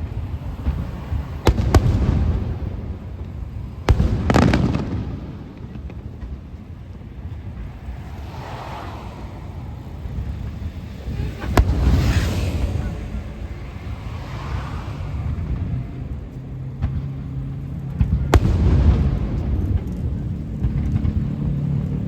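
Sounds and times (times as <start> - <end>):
fireworks bursting with sharp bangs: 0.0 - 22.0
fireworks crackling: 0.0 - 22.0
low rolling rumble: 0.0 - 22.0.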